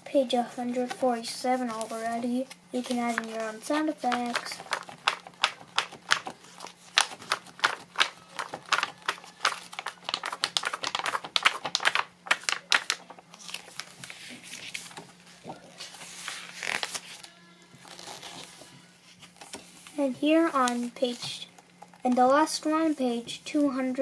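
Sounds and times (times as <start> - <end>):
book page flipping: 0.6 - 20.0, 20.6 - 21.2
page rustling: 0.6 - 21.2.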